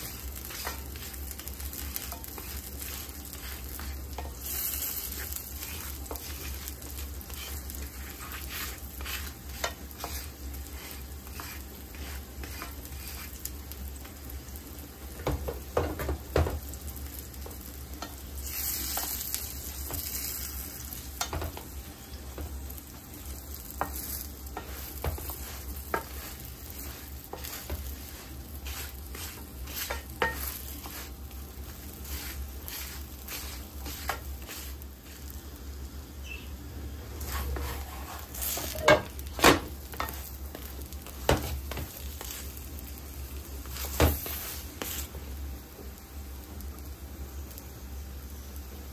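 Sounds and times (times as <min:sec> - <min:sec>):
wooden spatula scraping and tapping: 0:00.0 - 0:14.3, 0:15.1 - 0:35.3, 0:37.2 - 0:42.9, 0:43.6 - 0:45.2
flatbread sizzling in a pan: 0:00.0 - 0:48.9.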